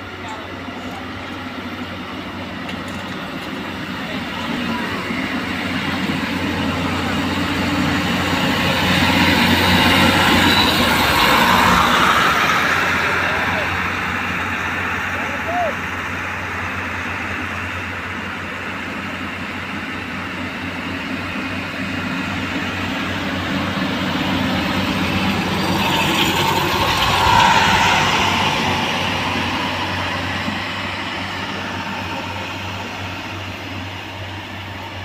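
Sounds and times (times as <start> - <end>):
rail machine diesel engine: 0.0 - 35.0.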